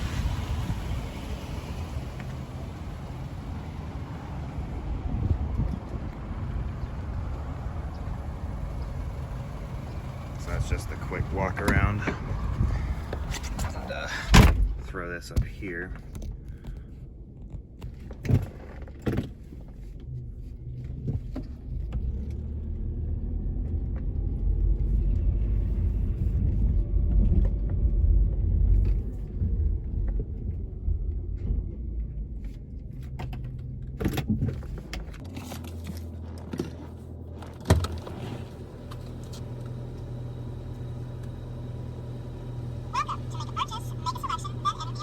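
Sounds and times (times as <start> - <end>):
car engine rumble: 0.0 - 45.0.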